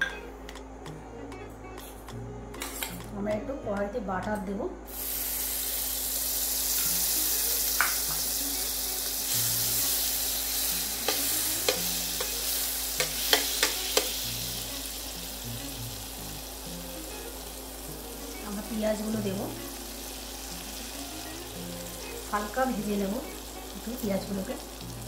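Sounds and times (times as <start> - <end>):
butter sizzling in a pan: 4.9 - 25.0.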